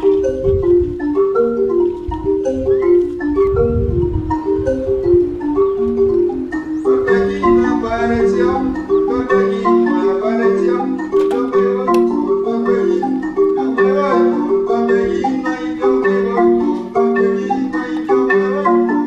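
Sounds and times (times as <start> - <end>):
mallet instrument melody: 0.0 - 19.0.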